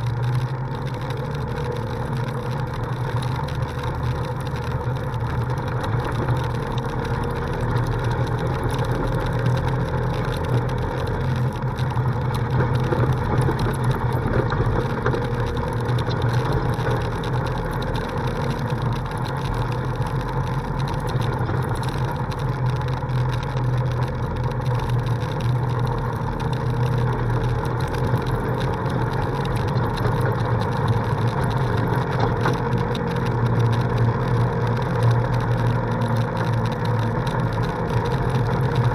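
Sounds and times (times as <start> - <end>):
tyres crunching on dirt road: 0.0 - 38.9
vehicle engine droning: 0.0 - 38.9.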